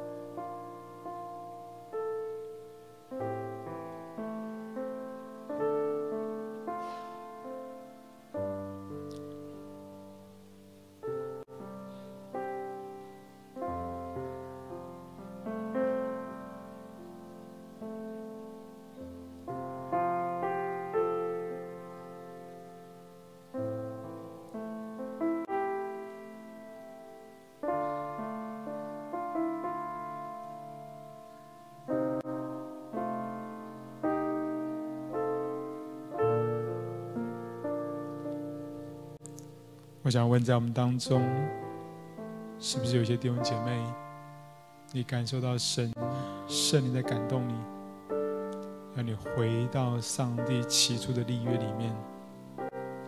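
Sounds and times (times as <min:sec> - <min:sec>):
soft piano chords: 0:00.0 - 0:53.0.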